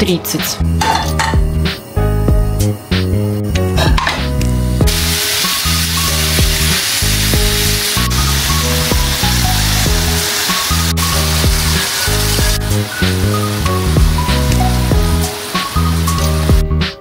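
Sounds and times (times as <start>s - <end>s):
background music: 0.0s - 17.0s
food sizzling in a pan: 0.8s - 17.0s.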